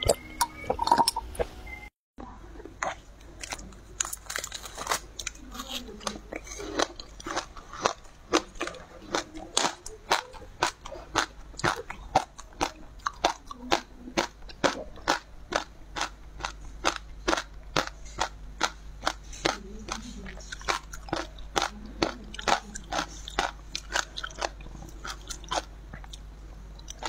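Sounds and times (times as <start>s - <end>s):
crisp crunching and chewing: 2.8s - 27.0s.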